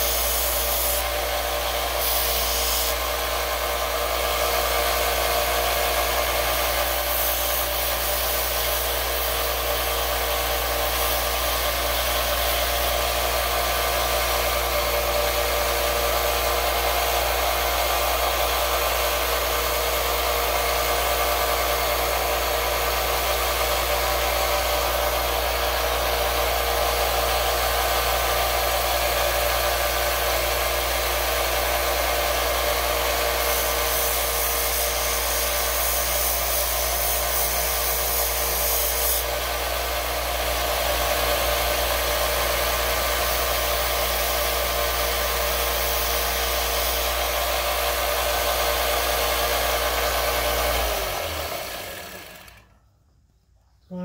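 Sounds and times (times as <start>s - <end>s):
belt sander running: 0.0s - 52.8s.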